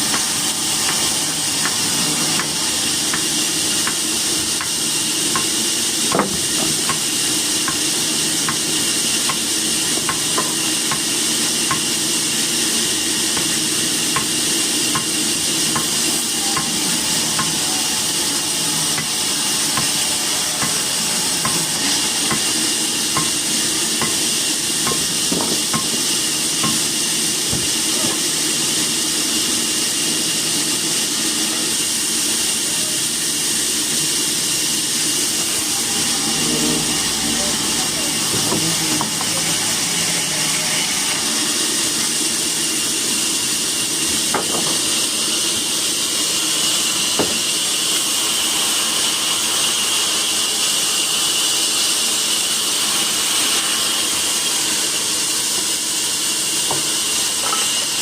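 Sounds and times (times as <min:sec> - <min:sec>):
sawmill machinery hiss: 0:00.0 - 0:58.0.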